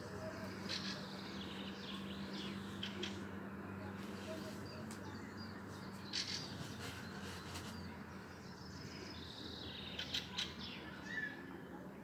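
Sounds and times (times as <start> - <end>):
songbird chirps: 0.0 - 12.0.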